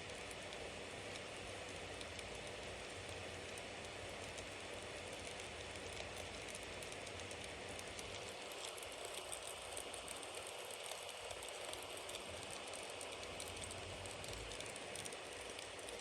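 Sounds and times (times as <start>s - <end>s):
bonfire crackling and hissing: 0.0s - 16.0s.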